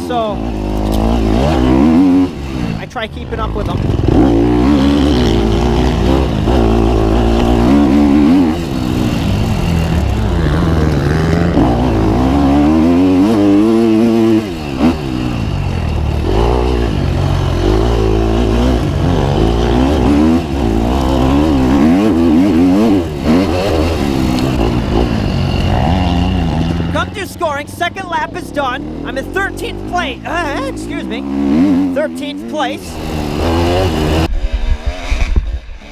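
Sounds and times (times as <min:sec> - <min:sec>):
dirt bike engine revving: 0:00.0 - 0:35.2.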